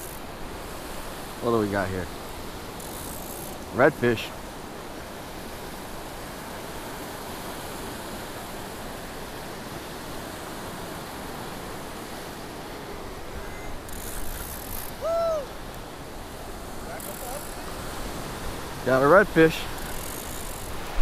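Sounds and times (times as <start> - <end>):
surf waves washing onto sand: 0.0 - 21.0.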